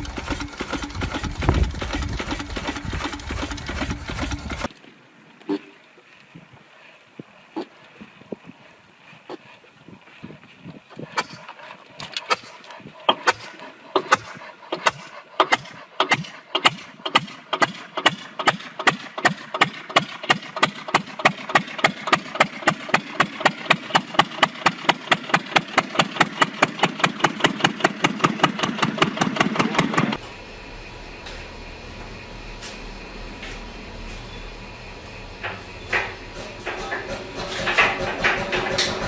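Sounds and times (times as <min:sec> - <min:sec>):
diesel engine starting: 0:00.0 - 0:04.7, 0:11.2 - 0:39.0.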